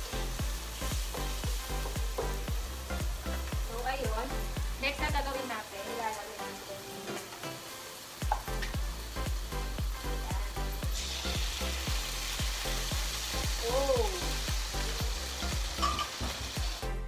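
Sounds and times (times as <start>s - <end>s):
background music with steady beat: 0.0s - 17.0s
meat sizzling in a frying pan: 0.0s - 17.0s.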